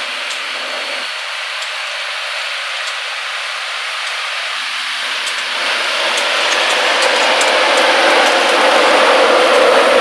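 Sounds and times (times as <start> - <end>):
electric locomotive running: 0.0 - 10.0.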